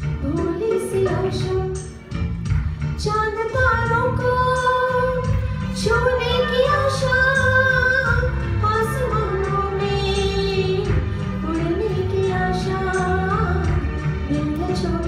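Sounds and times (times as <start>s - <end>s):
backing music: 0.0s - 15.0s
woman singing into microphone: 0.1s - 2.0s, 3.0s - 15.0s.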